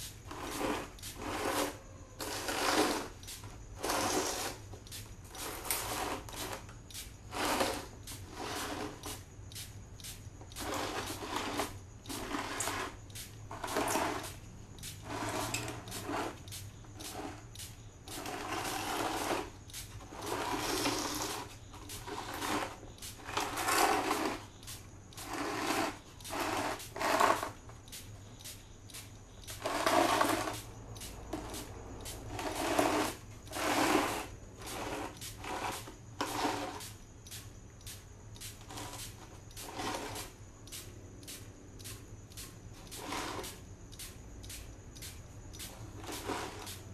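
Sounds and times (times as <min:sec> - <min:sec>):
spray gun hissing in bursts: 0:00.0 - 0:02.0, 0:02.7 - 0:46.9.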